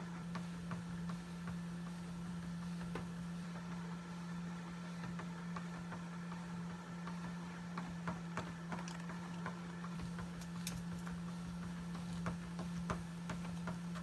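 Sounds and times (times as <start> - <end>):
treadmill motor hum: 0.0 - 14.0.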